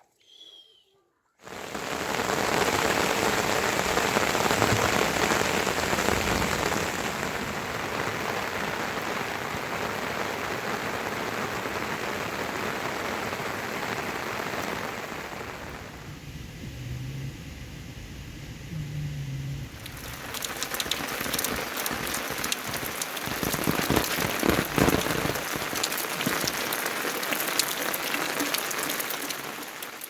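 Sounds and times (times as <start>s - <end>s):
heavy rain falling: 1.5s - 30.0s.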